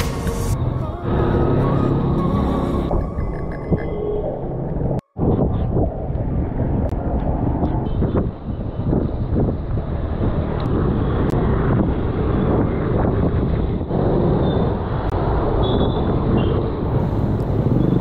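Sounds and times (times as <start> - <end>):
passing motor traffic: 0.0 - 18.0
wind rumbling on microphone: 0.5 - 18.0.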